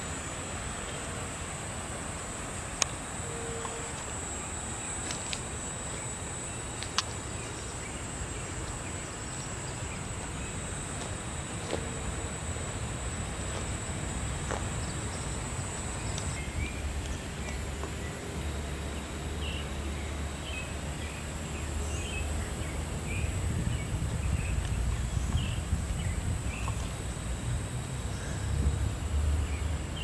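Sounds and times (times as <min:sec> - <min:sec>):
high-pitched insect buzz: 0:00.0 - 0:30.0.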